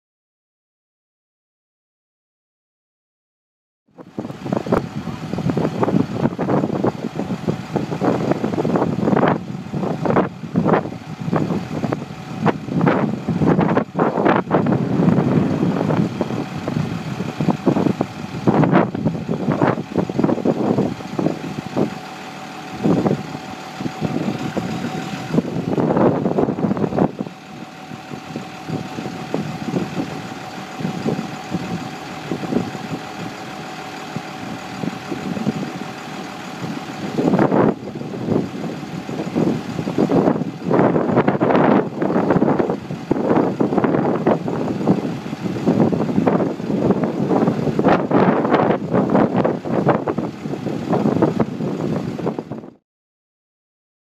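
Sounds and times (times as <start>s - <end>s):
truck engine running: 4.0s - 52.8s.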